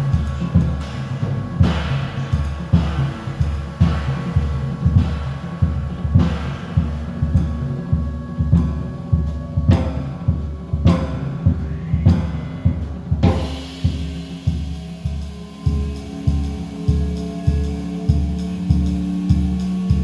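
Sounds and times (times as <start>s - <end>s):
background music with drum beat: 0.0s - 20.0s
cymbal crashes: 0.0s - 20.0s.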